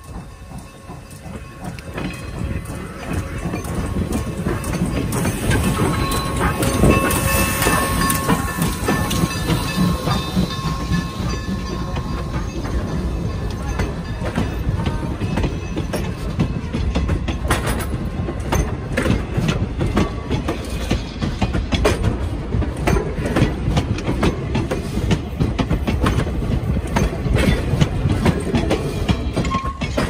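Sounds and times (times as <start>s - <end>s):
low rumble of train trucks: 0.0s - 30.0s
train wheels clacking over rail joints: 0.0s - 30.0s.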